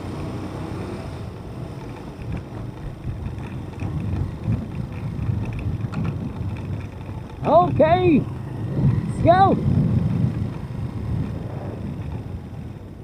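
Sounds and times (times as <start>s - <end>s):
motorcycle engine and road rumble: 0.0s - 13.0s
wind buffeting microphone: 0.2s - 13.0s.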